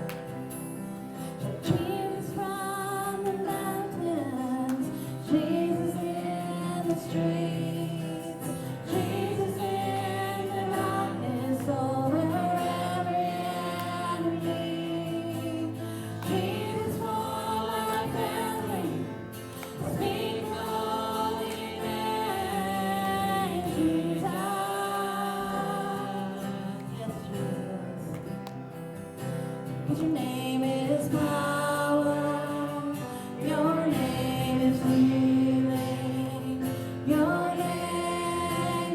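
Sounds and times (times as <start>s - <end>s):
gospel singing with instruments: 0.0s - 38.9s.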